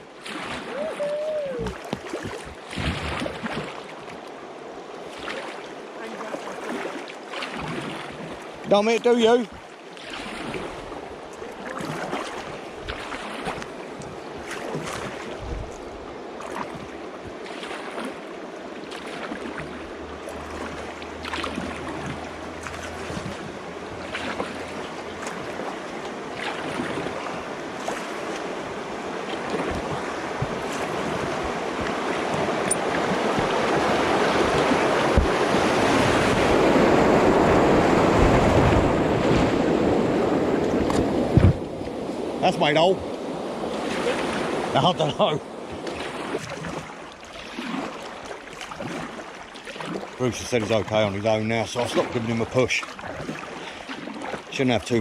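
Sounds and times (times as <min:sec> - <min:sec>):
rushing churning water: 0:00.0 - 0:55.0.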